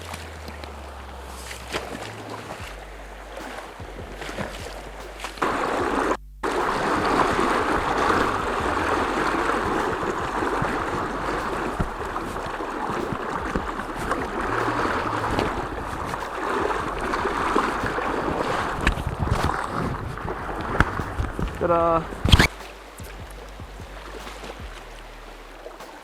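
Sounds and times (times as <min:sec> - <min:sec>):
rushing river current: 0:00.0 - 0:26.0
water splashing around wading legs: 0:00.0 - 0:26.0.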